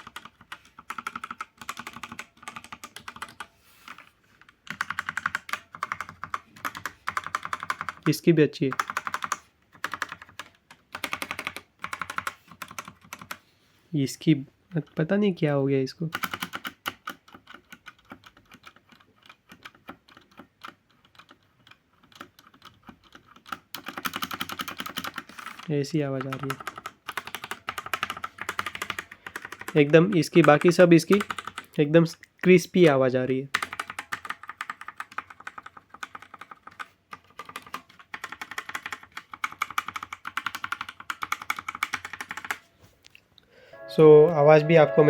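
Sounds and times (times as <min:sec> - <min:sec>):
mechanical keyboard typing: 0:00.0 - 0:04.0, 0:04.6 - 0:13.4, 0:16.1 - 0:31.8, 0:33.5 - 0:42.6.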